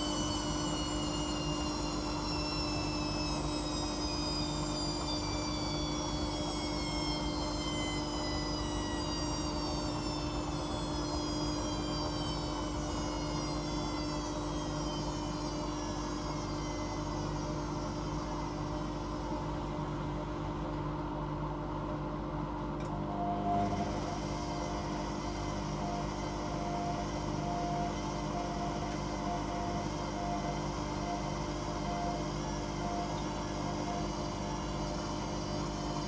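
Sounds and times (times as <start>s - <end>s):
washing machine motor whining: 0.0s - 21.1s, 22.8s - 36.0s.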